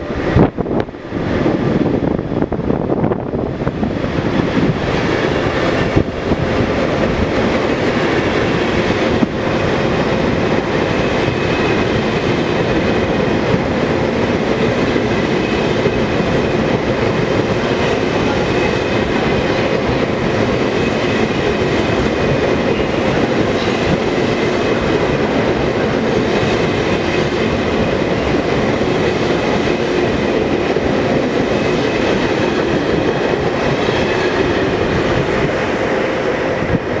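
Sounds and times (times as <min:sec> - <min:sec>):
train wheels on track: 0:00.0 - 0:37.0.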